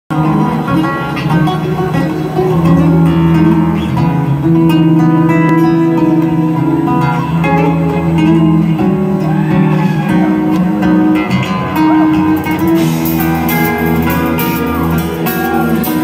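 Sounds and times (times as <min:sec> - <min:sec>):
amplified electric guitar: 0:00.1 - 0:16.0.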